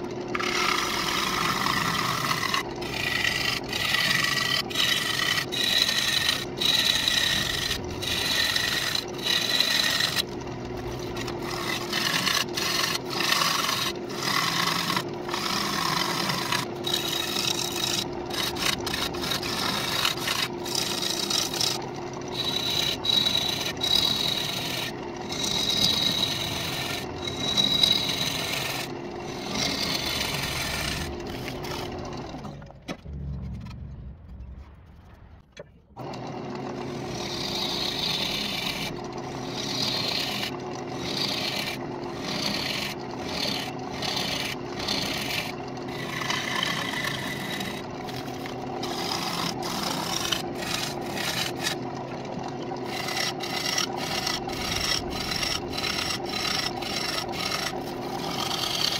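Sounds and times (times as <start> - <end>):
gouge scraping wood on lathe: 0.0 - 32.6, 36.0 - 58.9.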